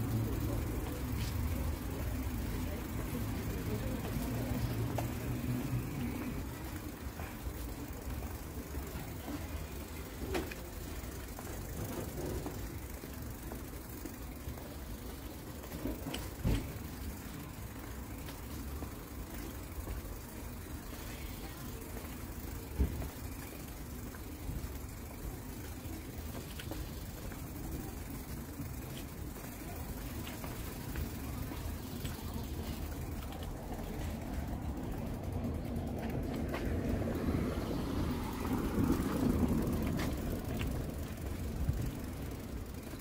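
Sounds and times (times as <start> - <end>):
low hum of traffic: 0.0 - 43.0.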